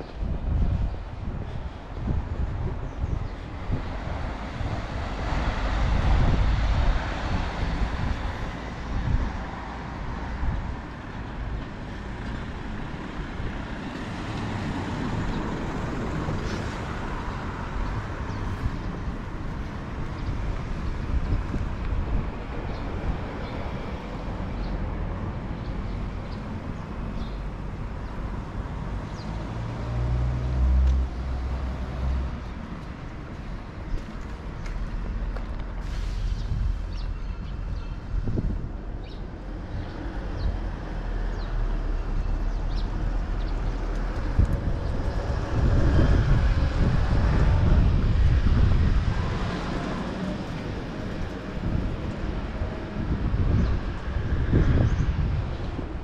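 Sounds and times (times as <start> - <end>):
road traffic passing: 0.0 - 56.0
wind gusts on microphone: 0.0 - 56.0.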